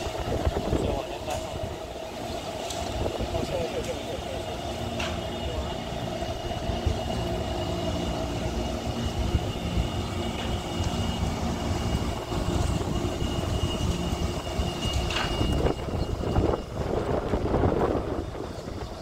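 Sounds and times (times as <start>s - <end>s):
electric train rumbling: 0.0s - 19.0s
motors humming: 0.0s - 19.0s
thin high whine: 0.0s - 19.0s.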